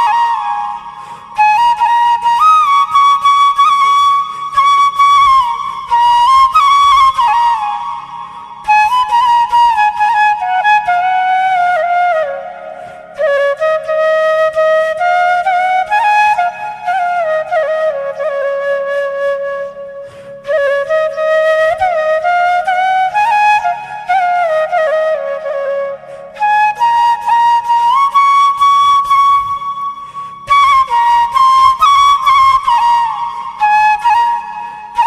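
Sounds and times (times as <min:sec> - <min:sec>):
flute playing slow melody: 0:00.0 - 0:35.0.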